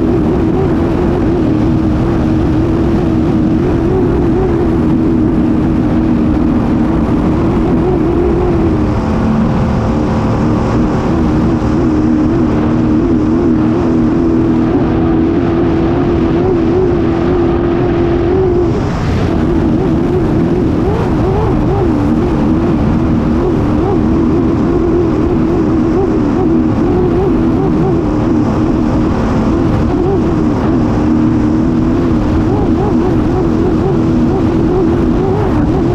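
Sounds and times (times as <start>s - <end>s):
boat engine at full speed: 0.0s - 35.9s
rushing wind and spray: 0.0s - 35.9s.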